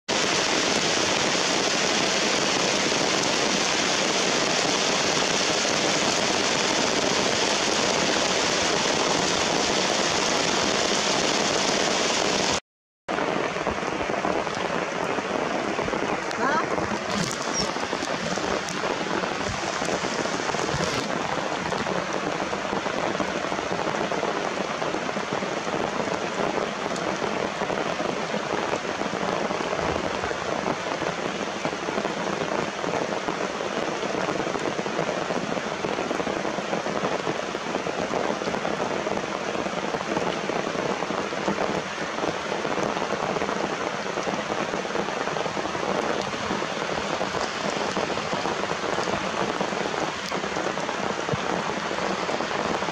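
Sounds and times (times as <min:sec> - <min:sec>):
rain pattering on surfaces: 0:00.1 - 0:52.9.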